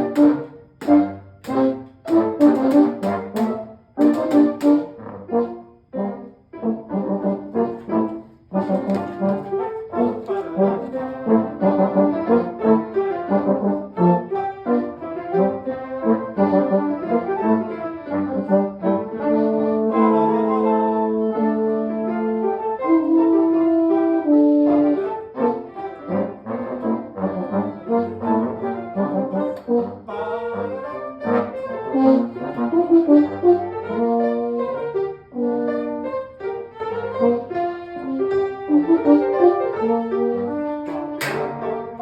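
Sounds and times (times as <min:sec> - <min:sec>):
brass ensemble music: 0:00.0 - 0:42.0.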